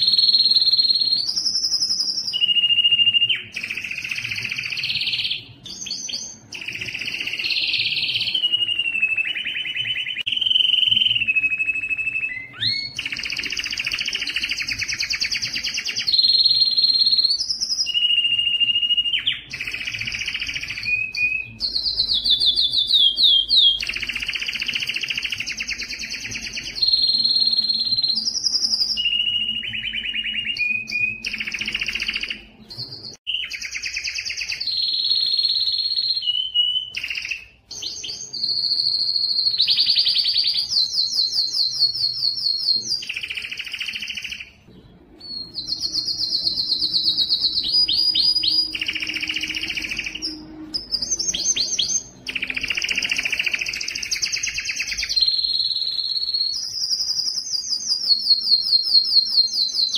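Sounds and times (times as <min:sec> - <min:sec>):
canary singing trills and whistles: 0:00.0 - 0:59.9.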